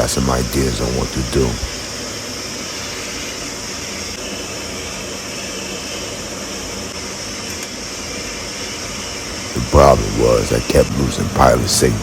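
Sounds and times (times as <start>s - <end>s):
boiler room machinery running: 0.0s - 12.0s.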